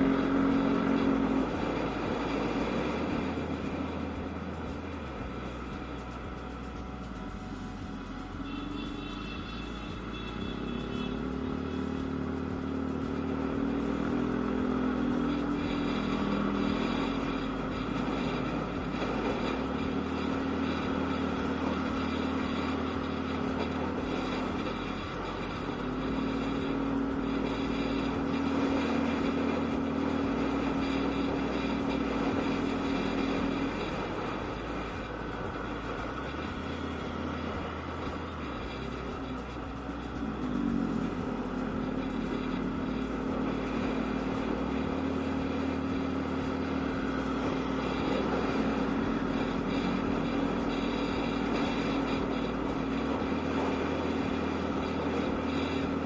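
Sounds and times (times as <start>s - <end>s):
scooter engine cruising: 0.0s - 56.0s.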